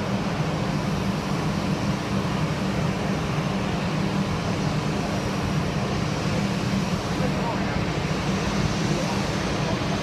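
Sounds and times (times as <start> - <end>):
distant jet airliner engine: 0.0 - 10.0.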